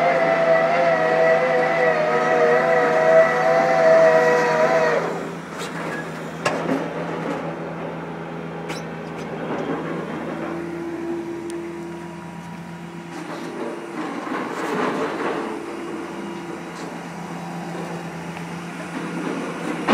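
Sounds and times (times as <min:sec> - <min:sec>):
loud high whine: 0:00.0 - 0:19.9
machine humming: 0:00.0 - 0:19.9.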